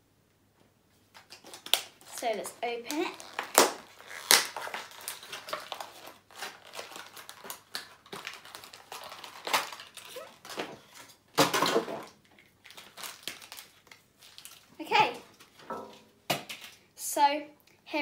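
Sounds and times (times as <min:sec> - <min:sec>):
plastic packaging crinkling and tearing: 0:01.1 - 0:15.6, 0:16.3 - 0:16.8.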